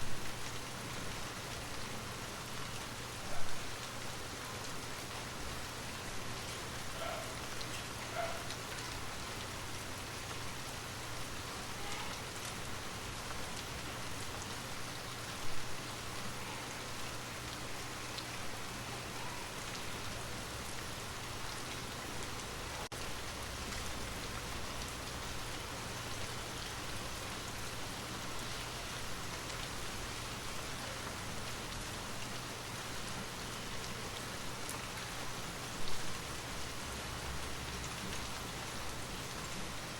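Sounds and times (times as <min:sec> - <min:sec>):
close raindrops: 0:00.0 - 0:39.9
rain falling: 0:00.0 - 0:39.9.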